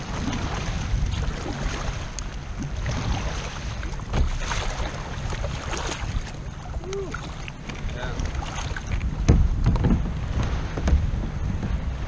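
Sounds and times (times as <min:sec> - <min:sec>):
kayak paddle splashing: 0:00.0 - 0:12.0
water slapping against hull: 0:00.0 - 0:12.0
wind on microphone: 0:00.0 - 0:12.0.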